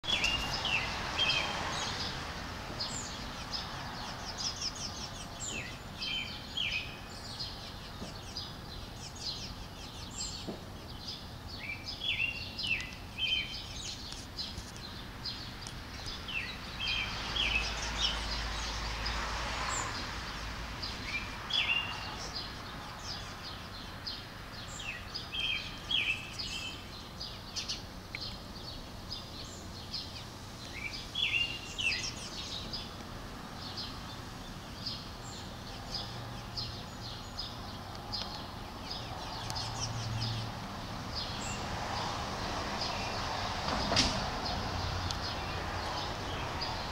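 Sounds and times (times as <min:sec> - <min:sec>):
small birds chirping: 0:00.0 - 0:43.6, 0:44.3 - 0:46.9
outdoor background noise: 0:00.0 - 0:46.9.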